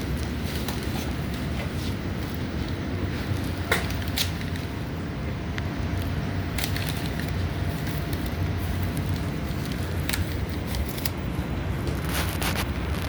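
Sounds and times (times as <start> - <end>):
faint steady whine: 0.0 - 13.0.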